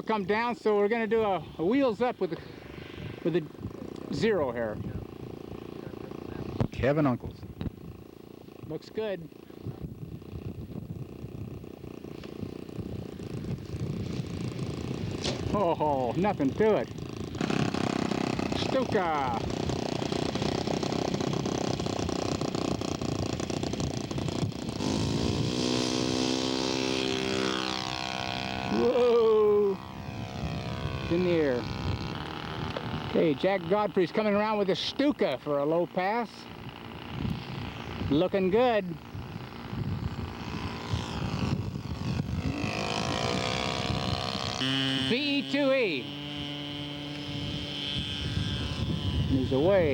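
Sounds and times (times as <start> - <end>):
model plane engine revving: 0.0 - 49.9.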